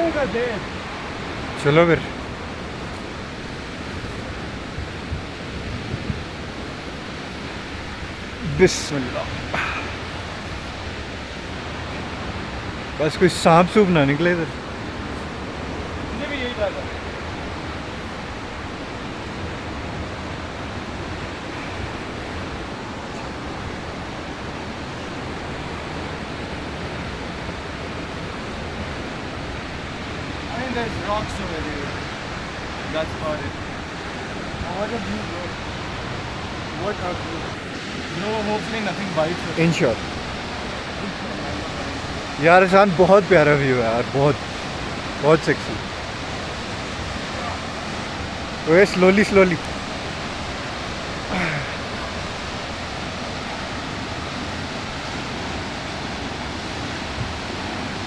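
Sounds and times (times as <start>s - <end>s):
waterfall roaring: 0.0s - 58.0s.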